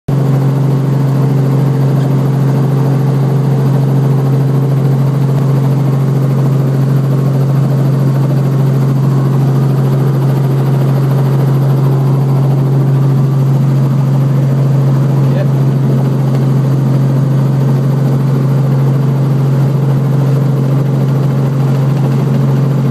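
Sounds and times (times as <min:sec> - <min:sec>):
helicopter engine and rotor drone: 0:00.1 - 0:22.9.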